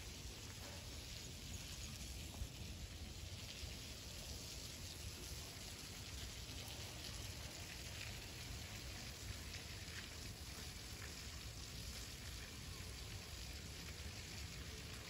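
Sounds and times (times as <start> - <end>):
light rain on concrete: 0.0 - 15.0.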